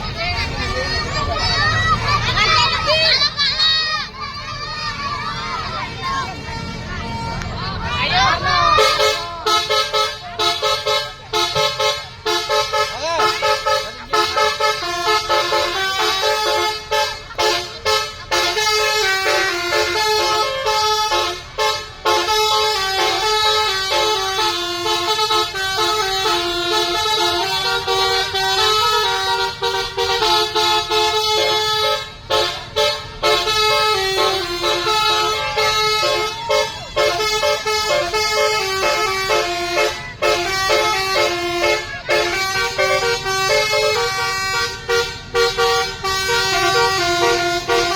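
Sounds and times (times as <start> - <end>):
musical air horn playing a tune: 8.7 - 47.9.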